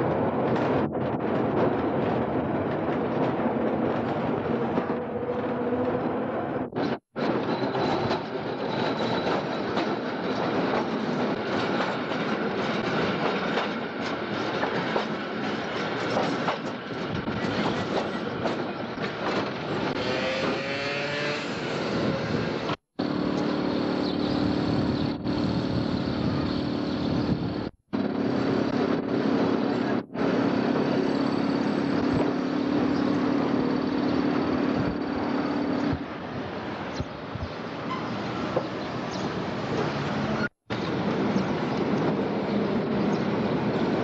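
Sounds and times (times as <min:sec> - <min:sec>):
tram wheels rumbling on track: 0:00.0 - 0:44.0.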